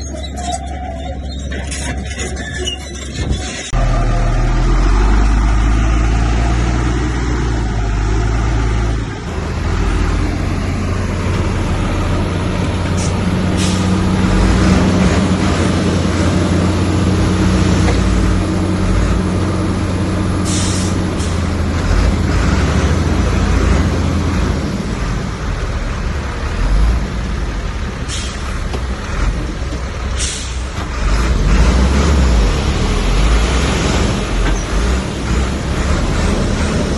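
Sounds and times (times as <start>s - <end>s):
diesel engine low drone: 0.0s - 36.9s.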